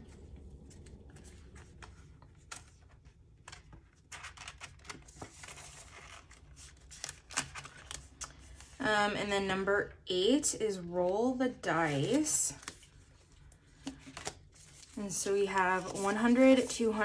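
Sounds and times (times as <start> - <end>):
banknotes and plastic rustling: 0.0 - 8.9, 11.5 - 17.0.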